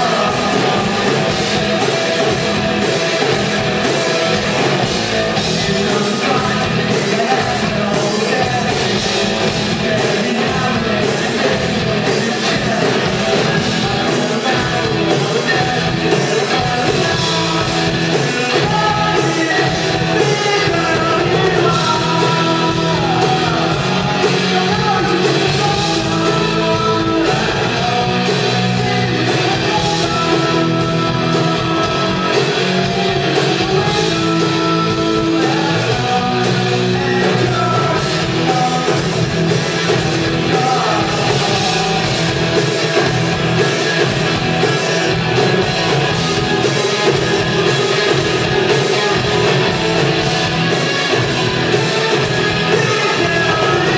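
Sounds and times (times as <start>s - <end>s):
person singing: 0.0s - 53.9s
rock band playing live: 0.0s - 53.9s.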